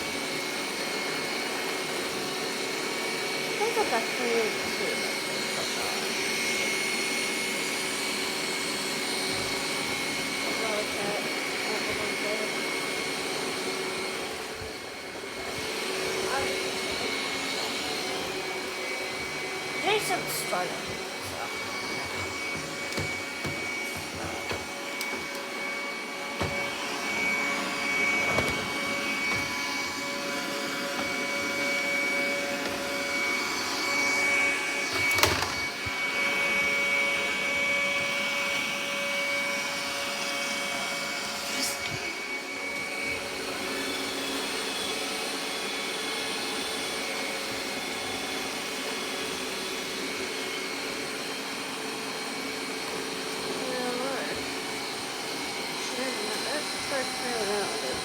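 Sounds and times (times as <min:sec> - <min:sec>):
robot vacuum cleaner running: 0:00.0 - 0:58.0.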